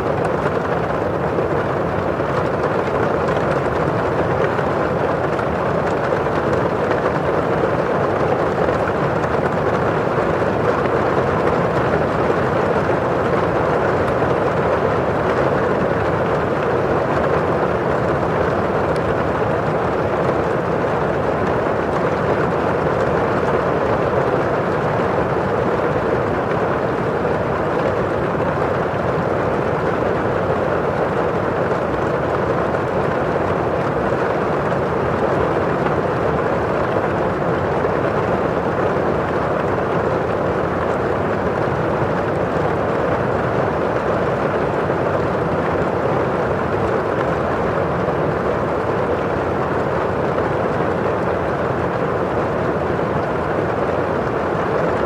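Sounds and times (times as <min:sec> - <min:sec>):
rain on a window pane: 0:00.0 - 0:55.0
rustle of rain outside: 0:00.0 - 0:55.0.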